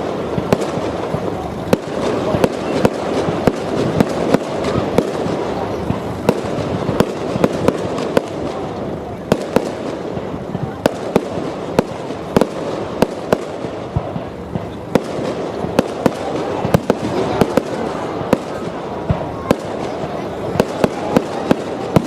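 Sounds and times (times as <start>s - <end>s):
dense firework din: 0.0s - 22.0s.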